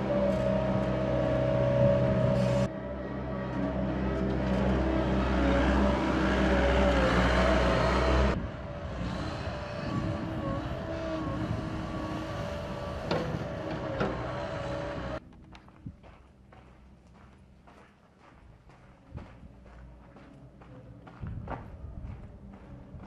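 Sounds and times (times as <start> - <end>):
loader engine running: 0.0 - 23.0.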